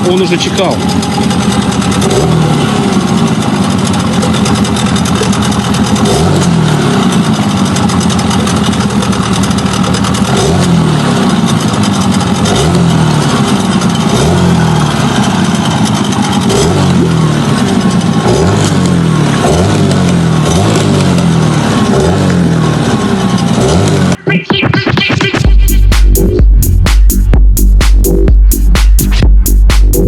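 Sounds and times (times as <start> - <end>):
outboard motor revving: 0.0 - 24.2.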